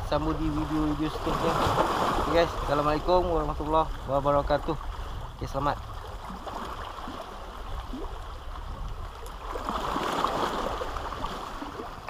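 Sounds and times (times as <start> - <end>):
waves splashing against rocks: 0.2 - 8.3, 8.9 - 12.0.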